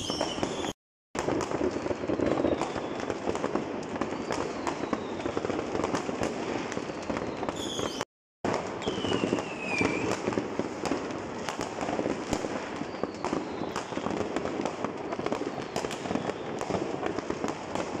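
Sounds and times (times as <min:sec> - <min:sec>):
falling firework whistles: 0:00.0 - 0:18.0
fireworks bangs and pops: 0:00.0 - 0:18.0.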